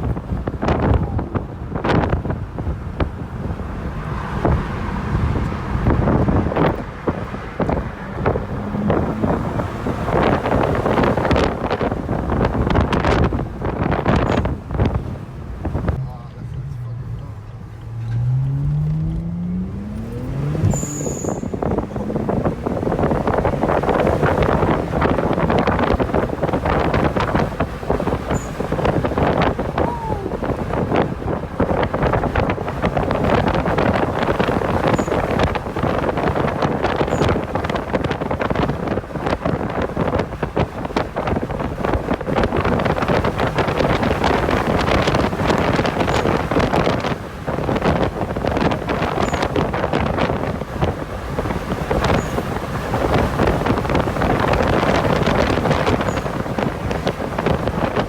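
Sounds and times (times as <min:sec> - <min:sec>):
car engine: 0:00.0 - 0:58.0
road noise: 0:00.0 - 0:58.0
wind buffeting microphone: 0:00.0 - 0:58.0.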